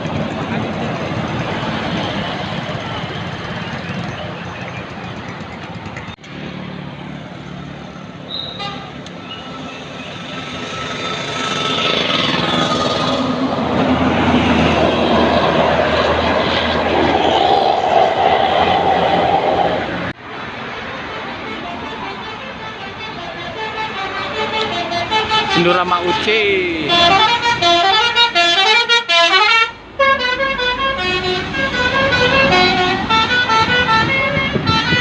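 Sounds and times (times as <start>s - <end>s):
bus engine passing: 0.0s - 35.0s.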